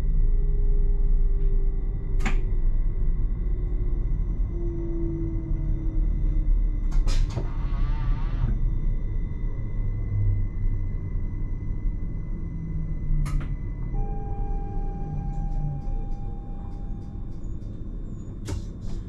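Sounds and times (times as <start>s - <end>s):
electric train rumble: 0.0s - 19.0s.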